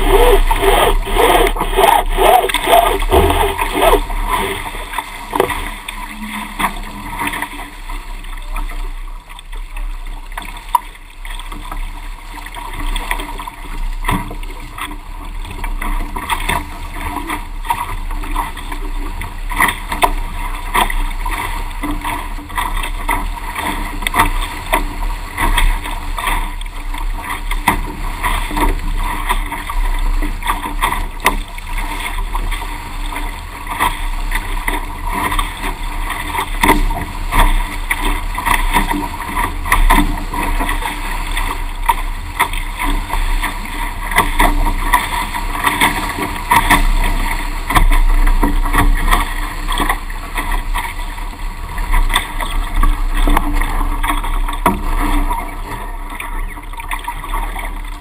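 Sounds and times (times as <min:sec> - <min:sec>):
water splashing against hulls: 0:00.0 - 0:58.0.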